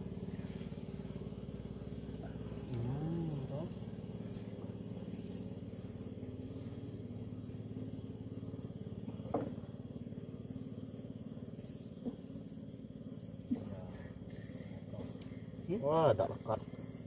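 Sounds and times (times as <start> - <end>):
insects trilling: 0.0 - 17.0
low steady hum: 0.0 - 17.0.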